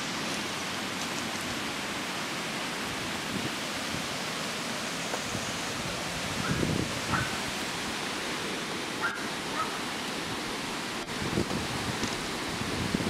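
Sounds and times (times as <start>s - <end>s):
river rushing in flood: 0.0s - 13.0s.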